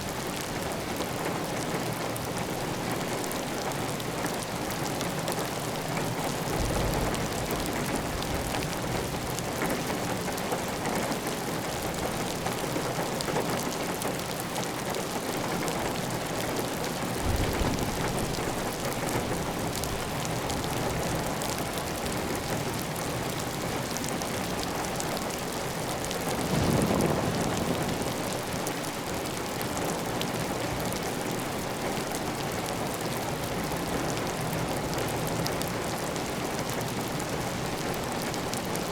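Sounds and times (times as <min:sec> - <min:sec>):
heavy rain on a tiled roof: 0:00.0 - 0:38.9.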